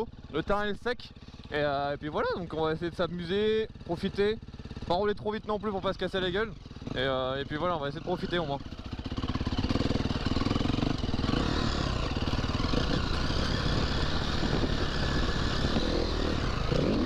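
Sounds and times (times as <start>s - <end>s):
dirt bike engine revving: 1.2s - 17.0s.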